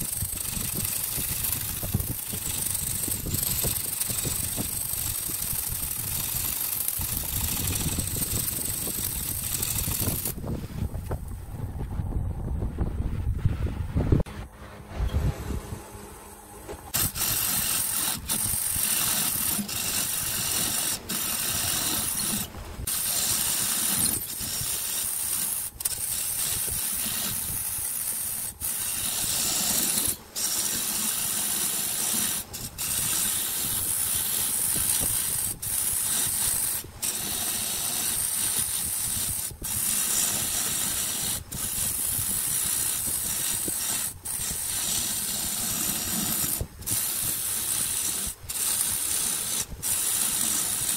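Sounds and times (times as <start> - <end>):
wood shaving hiss on a lathe: 0.0 - 10.4, 17.0 - 50.9.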